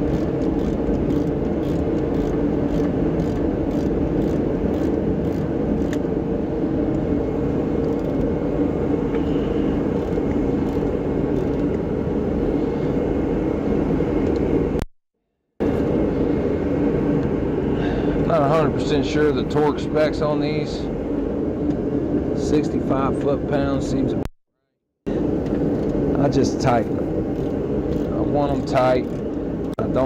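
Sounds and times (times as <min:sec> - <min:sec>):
low mechanical drone: 0:00.0 - 0:14.9, 0:15.5 - 0:24.3, 0:25.0 - 0:30.0.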